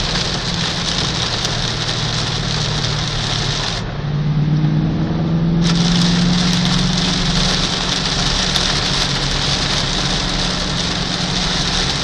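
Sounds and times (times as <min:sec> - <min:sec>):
heavy rain on a car: 0:00.0 - 0:03.9, 0:05.6 - 0:12.0
tyres hissing on wet road: 0:00.0 - 0:03.9, 0:05.5 - 0:12.0
car engine humming: 0:00.0 - 0:12.0.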